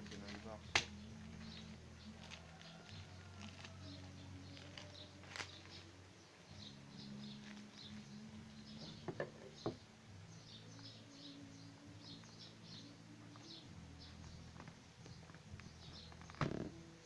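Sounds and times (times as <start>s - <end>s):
faint high chirping: 0.2s - 17.0s.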